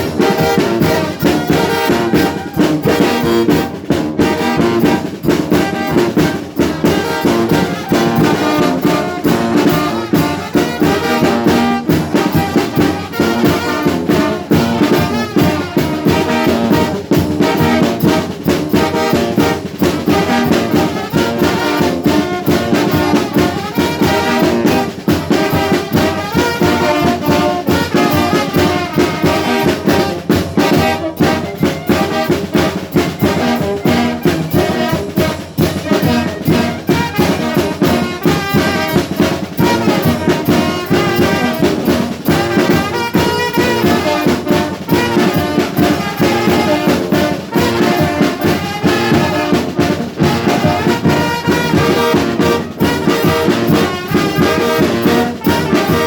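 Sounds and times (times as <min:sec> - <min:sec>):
brass band playing upbeat tune: 0:00.0 - 0:56.0.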